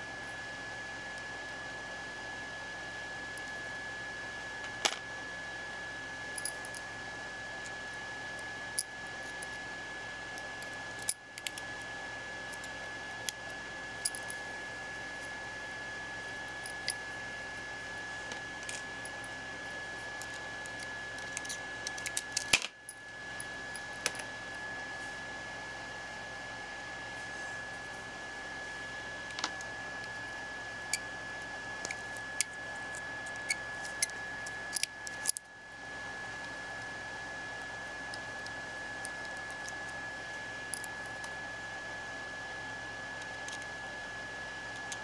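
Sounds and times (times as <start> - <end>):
steady hiss with high whine: 0.0 - 45.0.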